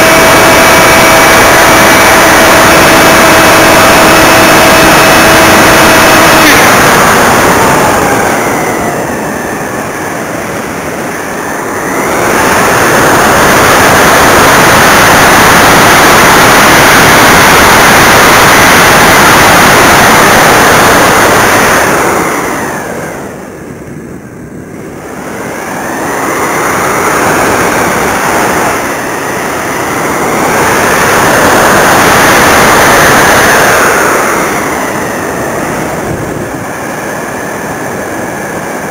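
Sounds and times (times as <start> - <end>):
electric motor whine: 0.0 - 38.9
wind rushing over microphone: 0.0 - 38.9.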